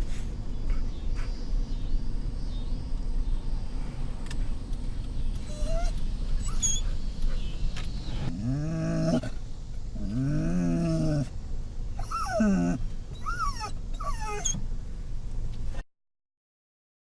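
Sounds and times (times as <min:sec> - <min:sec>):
van road rumble: 0:00.0 - 0:15.8.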